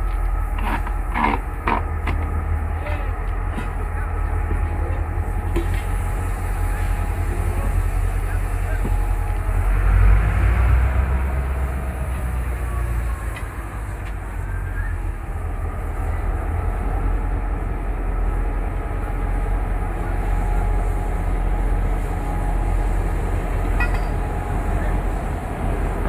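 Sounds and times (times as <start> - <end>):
locomotive engine rumbling: 0.0 - 26.0.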